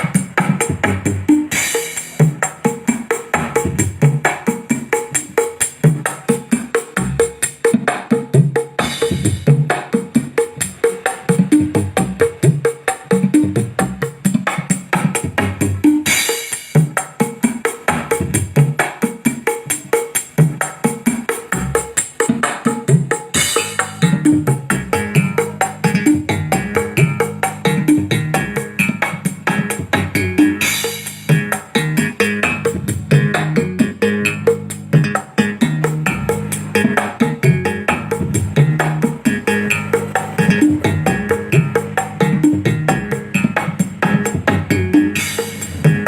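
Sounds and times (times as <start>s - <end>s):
music with fast drum beat: 0.0s - 46.0s.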